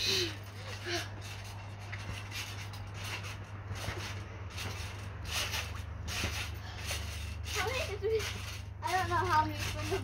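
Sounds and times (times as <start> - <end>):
steady low hum: 0.0 - 10.0
trampoline mat thumps: 1.2 - 10.0.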